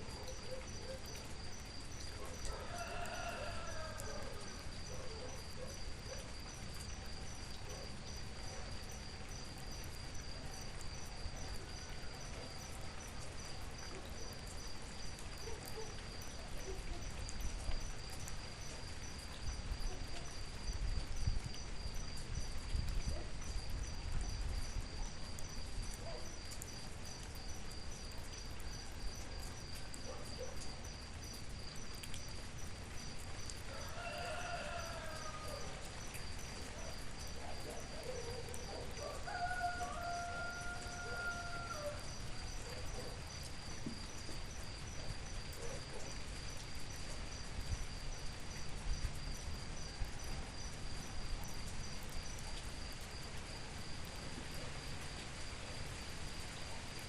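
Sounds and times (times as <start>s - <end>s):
insects chirping: 0.0s - 57.0s
outdoor background noise: 0.0s - 57.0s.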